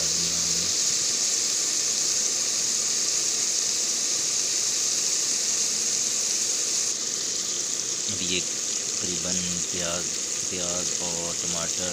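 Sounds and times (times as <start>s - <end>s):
vegetables sizzling in oil: 0.0s - 11.9s.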